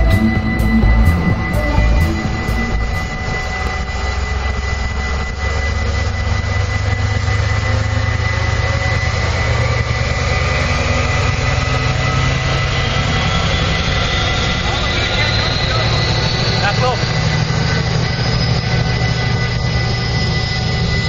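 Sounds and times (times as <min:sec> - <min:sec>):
diesel locomotive engine drone: 0:00.0 - 0:21.0
high whine: 0:00.0 - 0:21.0
whine rising in pitch: 0:00.0 - 0:21.0.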